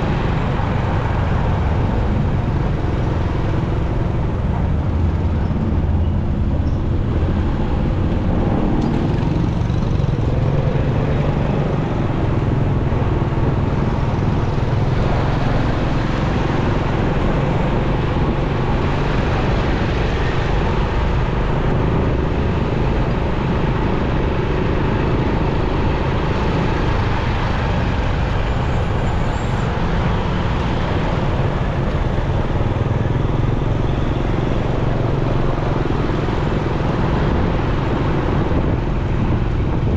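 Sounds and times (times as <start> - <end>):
motorcycle engine running: 0.0 - 28.2, 30.6 - 39.9
surrounding traffic: 0.0 - 39.9
wind noise on microphone: 0.0 - 39.9.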